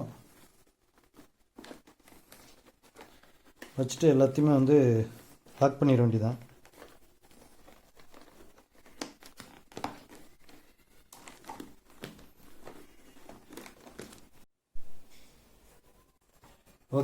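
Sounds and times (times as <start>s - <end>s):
padding rustling and crinkling: 0.1s - 14.5s.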